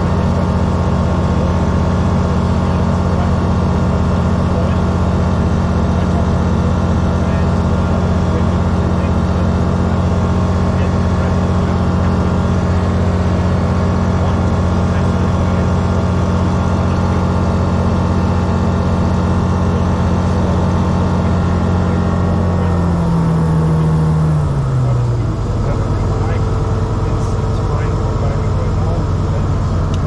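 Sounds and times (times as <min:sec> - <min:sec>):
aircraft engine and propeller from cockpit: 0:00.0 - 0:30.0.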